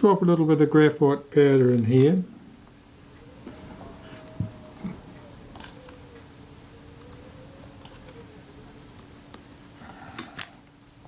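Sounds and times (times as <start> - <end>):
faint wavering hum: 0.0 - 11.0.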